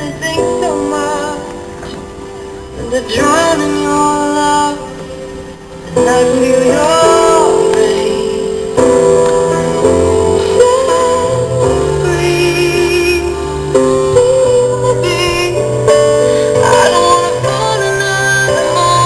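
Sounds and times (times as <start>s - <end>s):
woman singing: 0.0s - 1.7s, 2.7s - 5.3s, 5.9s - 19.0s.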